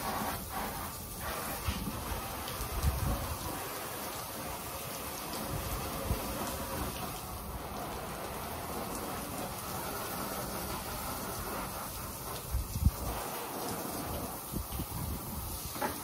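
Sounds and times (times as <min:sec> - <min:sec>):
pressure washer spraying water: 0:00.0 - 0:16.0.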